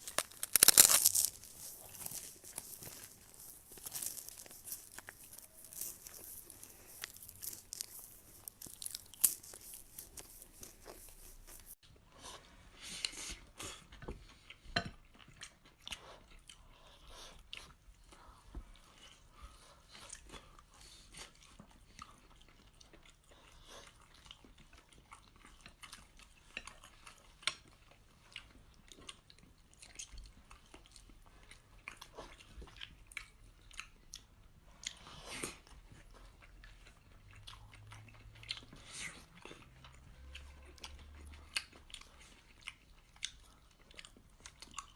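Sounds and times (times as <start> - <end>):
person chewing crunchy food: 0.0 - 11.8, 13.6 - 18.2, 18.8 - 44.9.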